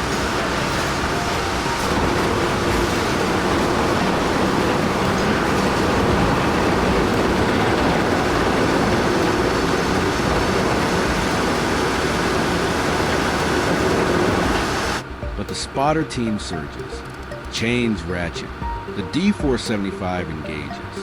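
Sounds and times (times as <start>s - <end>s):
heavy vehicle running: 0.0s - 21.0s.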